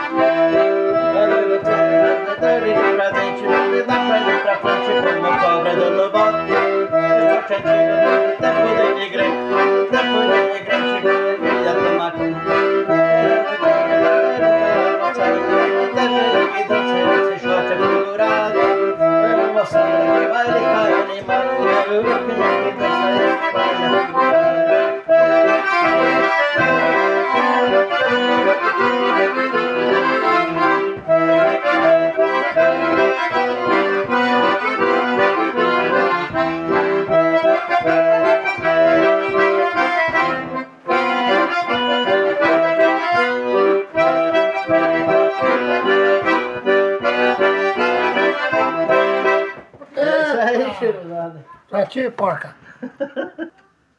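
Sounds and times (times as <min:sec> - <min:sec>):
accordions playing chords: 0:00.0 - 0:51.0.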